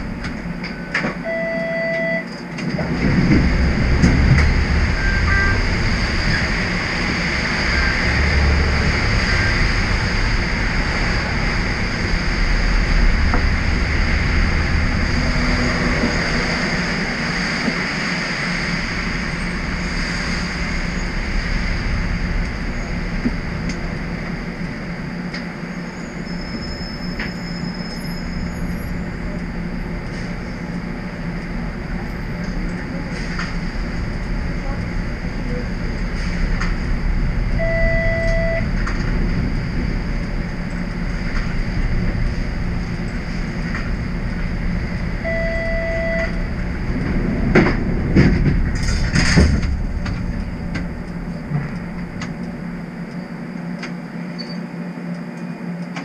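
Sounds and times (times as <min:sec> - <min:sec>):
streetcar equipment rumble and hum: 0:00.0 - 0:56.0.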